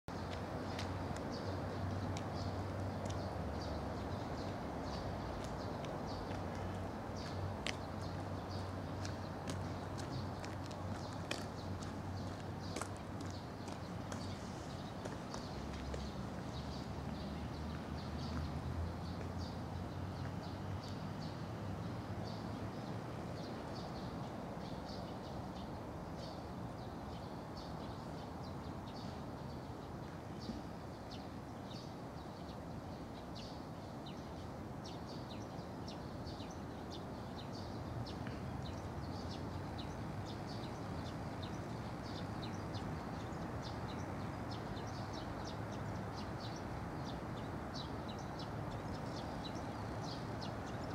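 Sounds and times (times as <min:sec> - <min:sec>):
small birds chirping: 0:00.1 - 0:50.9.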